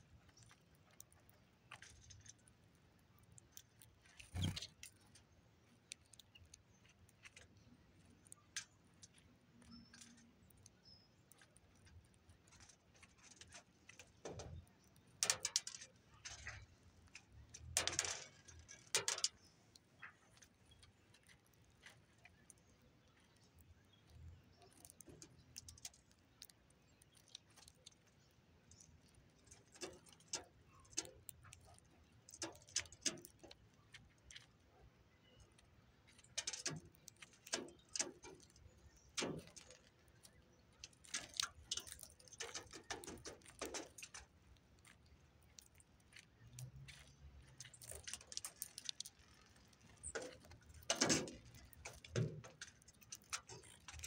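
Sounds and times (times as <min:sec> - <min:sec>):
birds pecking seeds clicking: 0:00.0 - 0:54.0.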